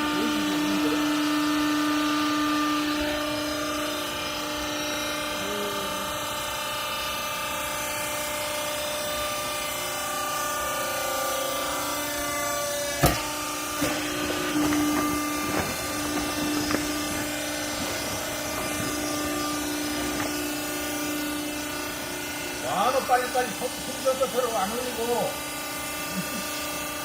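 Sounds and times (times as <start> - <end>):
hydraulic power pack humming: 0.0 - 27.0.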